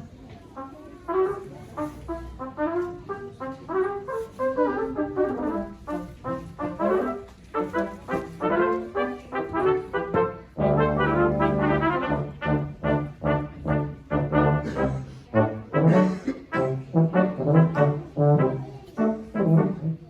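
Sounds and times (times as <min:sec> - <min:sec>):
brass quartet playing: 0:00.7 - 0:20.0.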